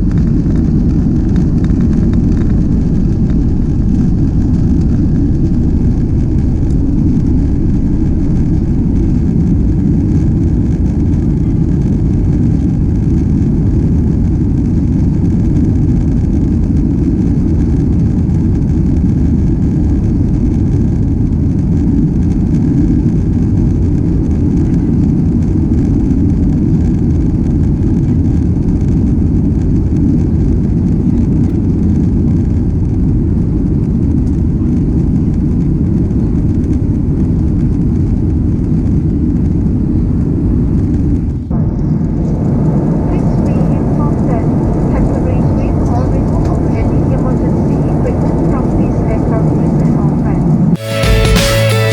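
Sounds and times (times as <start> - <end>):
airliner engine rumble in cabin: 0.0 - 50.8.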